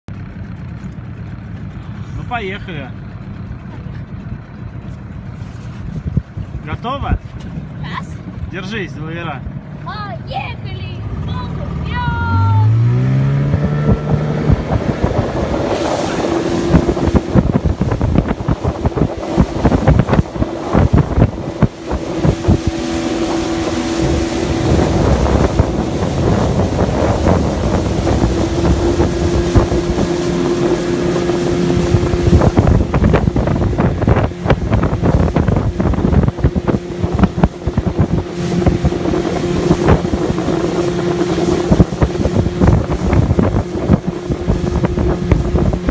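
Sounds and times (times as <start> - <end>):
motorboat engine: 0.1 - 45.9
wind buffeting microphone: 3.0 - 45.9.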